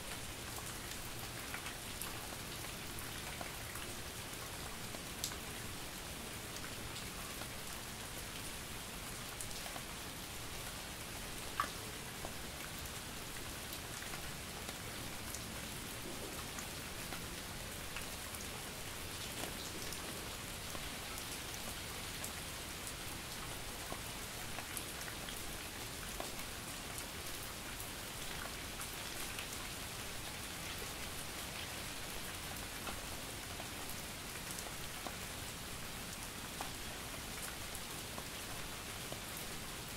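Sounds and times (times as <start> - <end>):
light rain pattering: 0.0 - 39.9.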